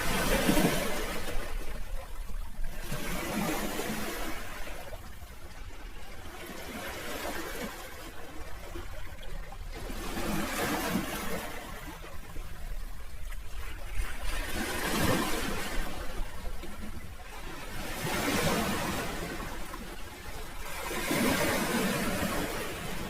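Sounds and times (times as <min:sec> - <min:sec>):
sea waves washing on shore: 0:00.0 - 0:23.0.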